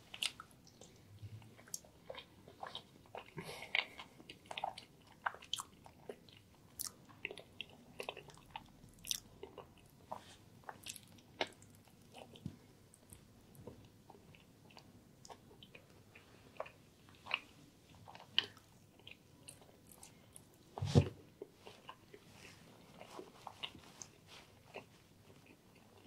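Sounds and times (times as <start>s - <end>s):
chewing with crisp crackles: 0.0s - 26.0s.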